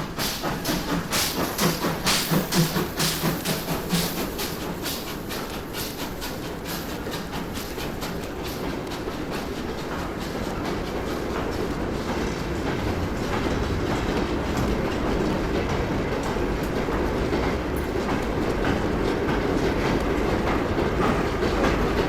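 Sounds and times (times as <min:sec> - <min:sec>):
train rumble: 0:00.0 - 0:22.0
train wheels clicking on rails: 0:00.0 - 0:22.0.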